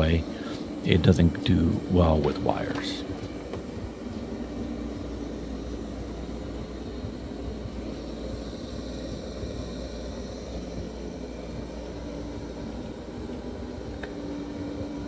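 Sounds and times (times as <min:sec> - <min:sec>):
robot vacuum motor hum: 0:00.0 - 0:15.0.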